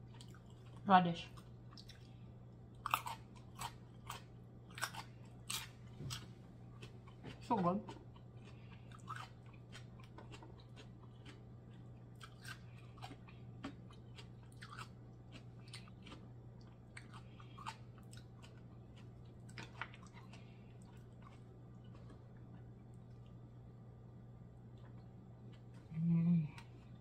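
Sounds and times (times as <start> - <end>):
person chewing: 0.0 - 23.5
low steady hum: 0.0 - 27.0.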